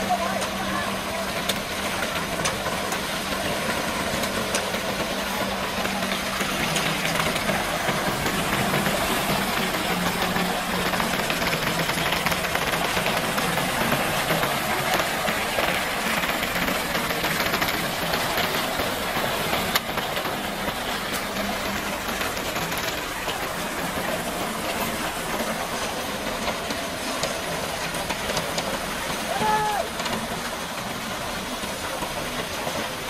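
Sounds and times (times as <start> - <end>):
concrete pouring down a chute: 0.0 - 33.0.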